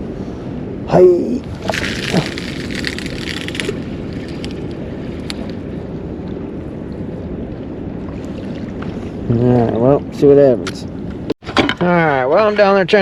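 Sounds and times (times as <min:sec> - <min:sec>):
wind buffeting the microphone: 0:00.0 - 0:11.4.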